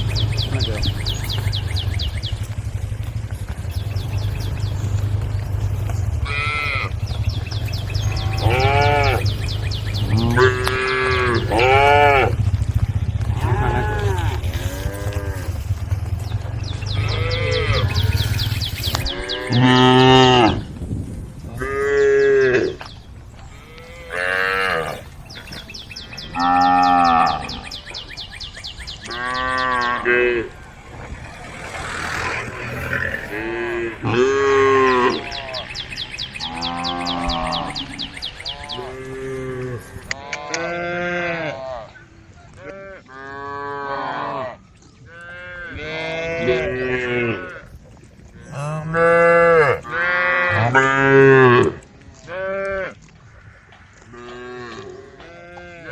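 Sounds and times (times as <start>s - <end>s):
cows mooing: 0.0s - 20.7s, 21.5s - 28.2s, 28.9s - 55.9s.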